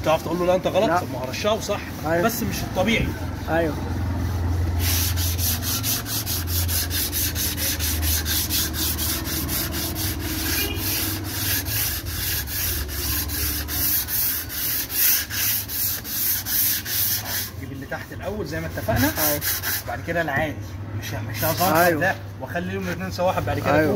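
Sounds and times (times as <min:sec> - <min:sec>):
hand sanding with sandpaper: 0:00.0 - 0:20.2, 0:21.1 - 0:23.9.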